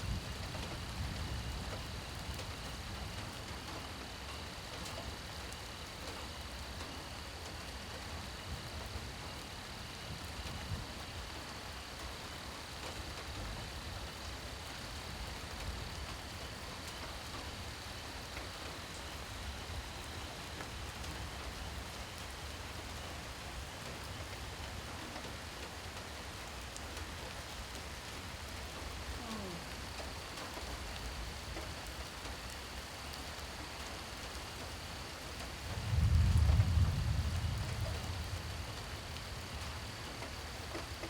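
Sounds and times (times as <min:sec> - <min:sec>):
steady rain: 0:00.0 - 0:41.0
raindrops ticking: 0:00.1 - 0:41.0.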